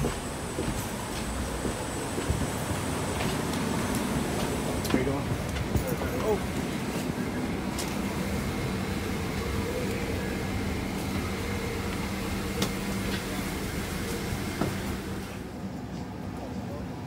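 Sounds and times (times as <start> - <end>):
cabin air-conditioning rush: 1.2 - 15.8.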